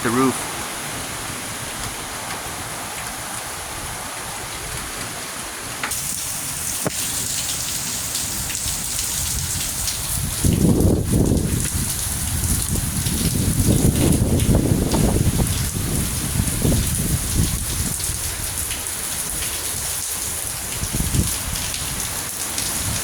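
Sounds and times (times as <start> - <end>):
heavy rain pouring on roof: 0.0 - 23.0
low rumble of wind: 0.0 - 23.0.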